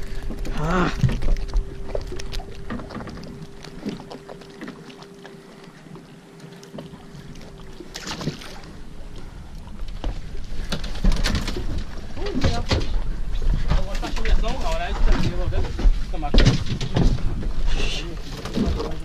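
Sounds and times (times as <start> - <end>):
water lapping at boat hull: 0.0 - 19.0.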